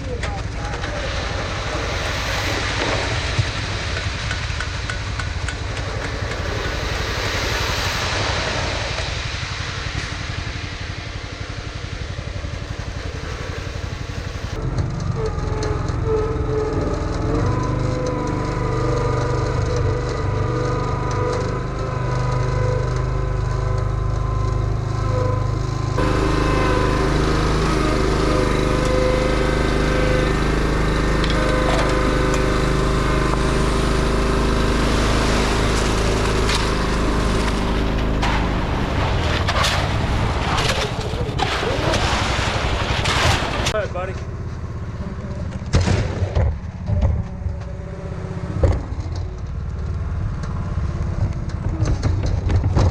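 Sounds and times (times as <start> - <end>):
vehicle engine running: 0.0 - 52.9.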